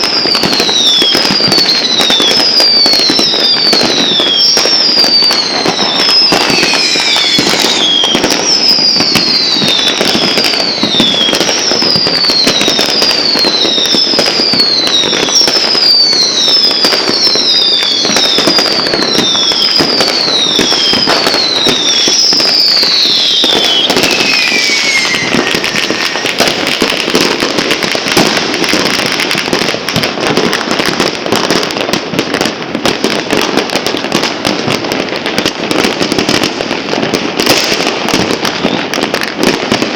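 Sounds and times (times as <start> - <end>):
falling whistles of fireworks: 0.0 - 39.9
fireworks crackling bangs: 0.0 - 39.9.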